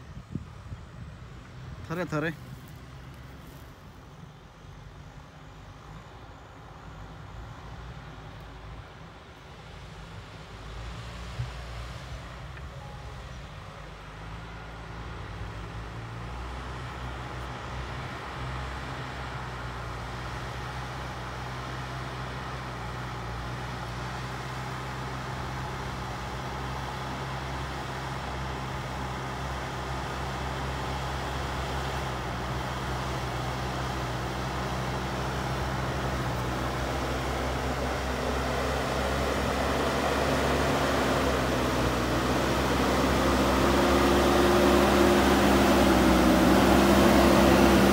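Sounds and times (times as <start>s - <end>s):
diesel engine under load: 0.0s - 47.9s.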